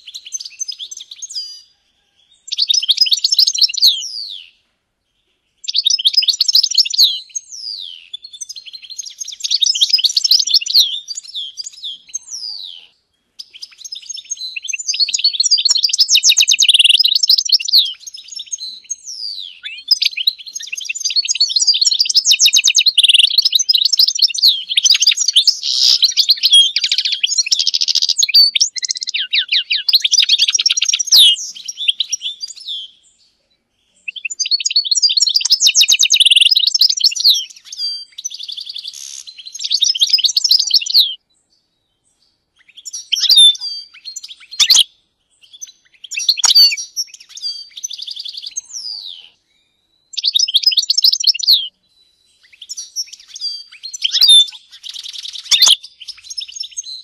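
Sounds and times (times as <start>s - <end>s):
goldfinch twittering song: 2.4s - 4.6s, 5.6s - 33.0s, 34.0s - 41.2s, 42.0s - 49.2s, 50.0s - 57.0s.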